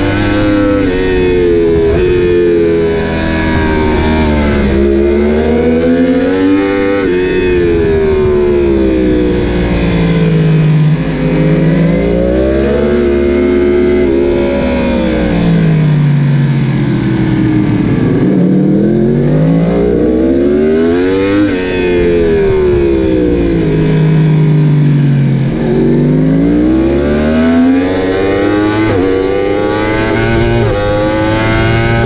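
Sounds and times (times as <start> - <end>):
motorcycle engine at racing pace: 0.0 - 32.0
wind noise: 0.0 - 32.0.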